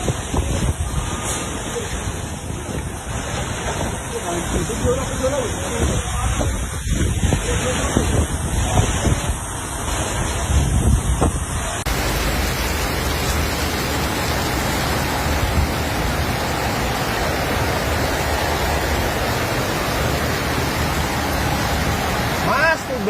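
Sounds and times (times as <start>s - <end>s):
heavy rain pouring: 0.0s - 23.0s
wind gusts buffeting microphone: 0.0s - 23.0s.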